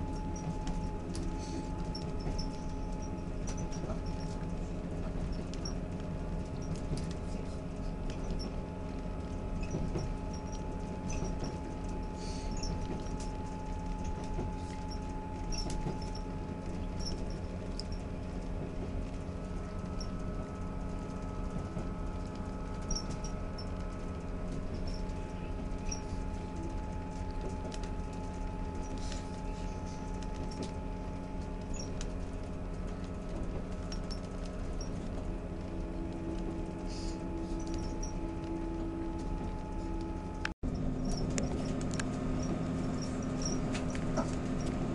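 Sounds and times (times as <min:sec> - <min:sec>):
diesel train rumble: 0:00.0 - 0:44.9
wheels clicking and rattling: 0:00.0 - 0:44.9.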